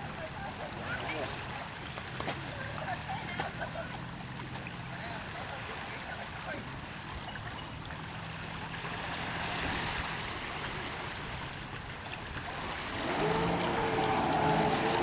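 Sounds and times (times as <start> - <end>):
jet ski engine: 0.0 - 15.0
water rushing and splashing: 0.0 - 15.0.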